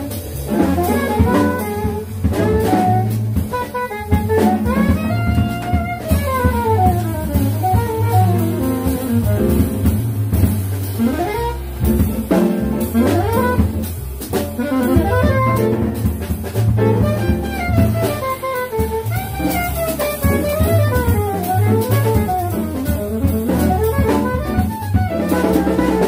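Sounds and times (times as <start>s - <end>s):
saxophone solo: 0.0s - 16.2s, 16.8s - 26.0s
drum kit: 0.0s - 26.0s
piano: 0.0s - 26.0s
upright bass: 0.0s - 26.0s.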